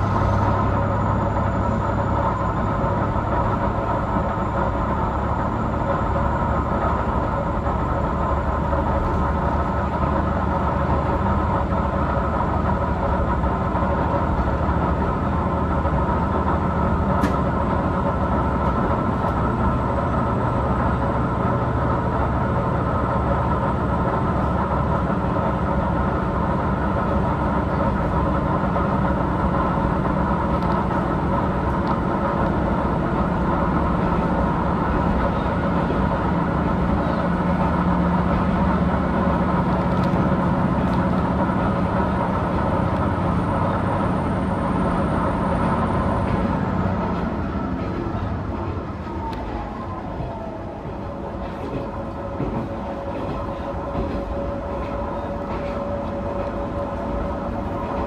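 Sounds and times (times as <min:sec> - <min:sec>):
diesel railcar engine running: 0:00.0 - 0:58.0
train wheels on rails: 0:00.0 - 0:58.0.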